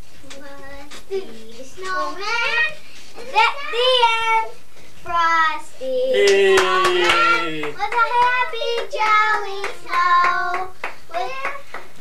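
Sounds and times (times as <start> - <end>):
girl singing: 0.2 - 6.2, 7.0 - 11.8.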